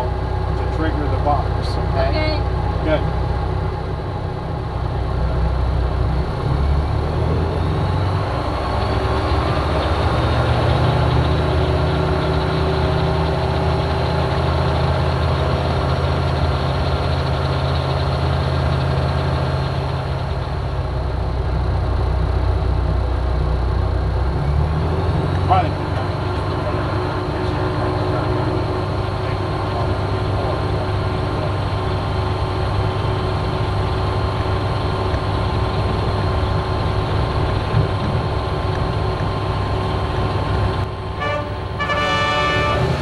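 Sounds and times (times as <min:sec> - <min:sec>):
propeller airplane engine drone: 0:00.0 - 0:43.0.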